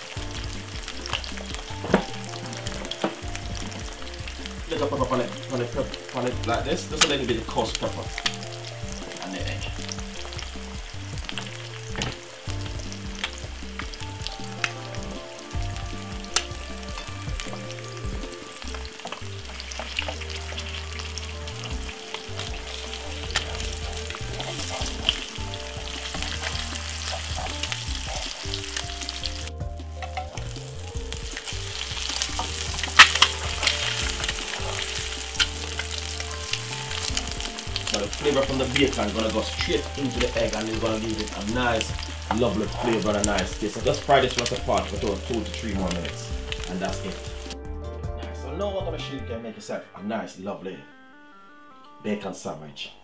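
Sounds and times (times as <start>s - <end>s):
eggs and bacon sizzling: 0.0s - 47.6s.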